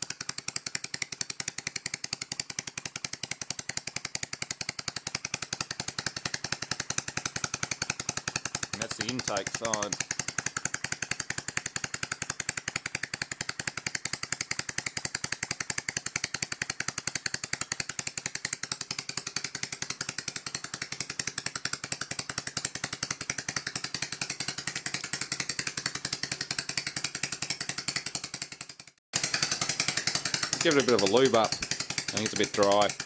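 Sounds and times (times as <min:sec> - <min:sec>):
compressor mechanical clatter: 0:00.0 - 0:33.0.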